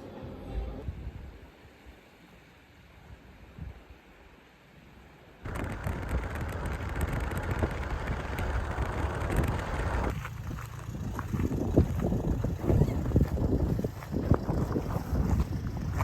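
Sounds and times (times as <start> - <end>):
wind blowing across microphone: 0.8 - 2.0, 2.9 - 4.0, 5.4 - 16.0.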